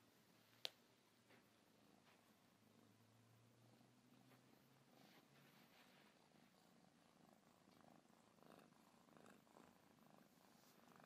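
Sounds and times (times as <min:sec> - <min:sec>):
kitten purring: 0:01.6 - 0:11.0.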